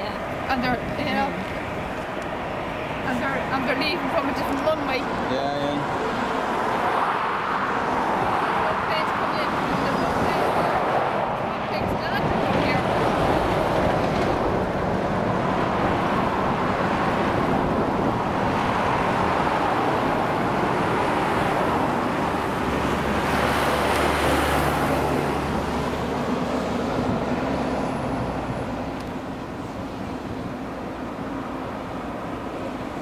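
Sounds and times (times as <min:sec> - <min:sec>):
vehicle passing: 0:00.0 - 0:33.0
lorry passing: 0:00.1 - 0:33.0
rush of tyres on road: 0:00.2 - 0:33.0.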